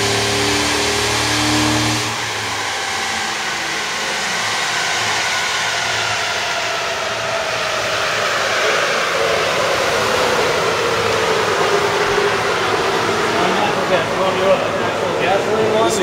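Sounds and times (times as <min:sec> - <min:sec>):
faint falling whine: 0:00.0 - 0:16.0.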